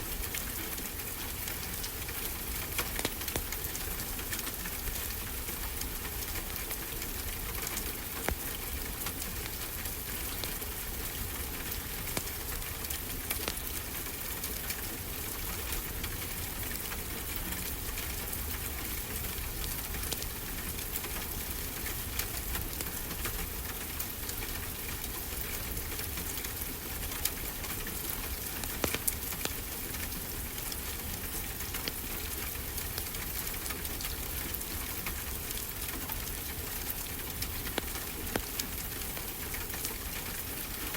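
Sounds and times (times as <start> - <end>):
wood fire crackling: 0.2 - 16.5, 18.4 - 40.8.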